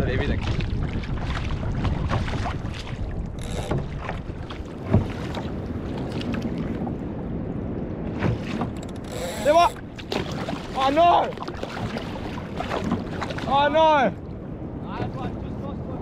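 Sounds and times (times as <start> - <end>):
paddle splashing in water: 0.0 - 7.1, 7.8 - 13.9
wind buffeting microphone: 0.0 - 16.0.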